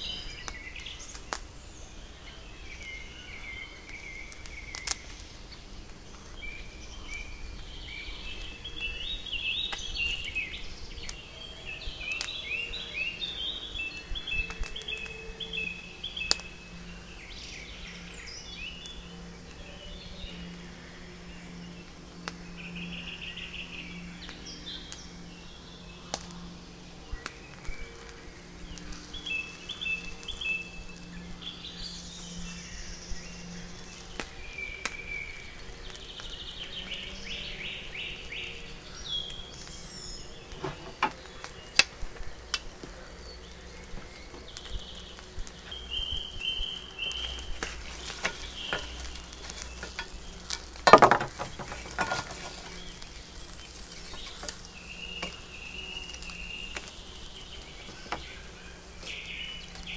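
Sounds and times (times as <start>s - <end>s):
songbirds singing: 0.0s - 59.9s
steady low hum: 0.0s - 59.9s.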